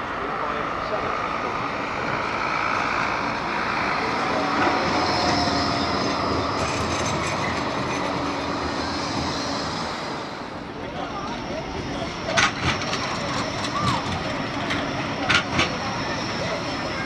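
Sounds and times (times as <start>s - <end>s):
tram electric hum: 0.0s - 17.0s
tram wheels rolling on rails: 2.0s - 17.0s.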